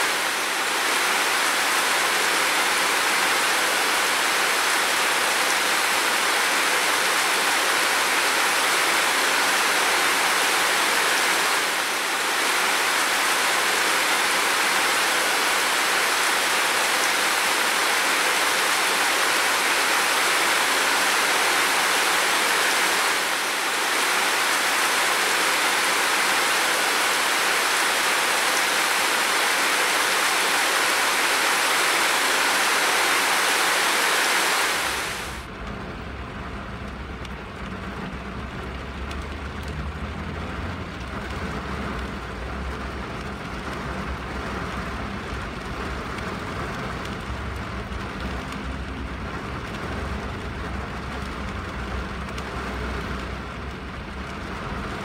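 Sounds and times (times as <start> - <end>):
heavy rain on window and roof: 0.0 - 55.0.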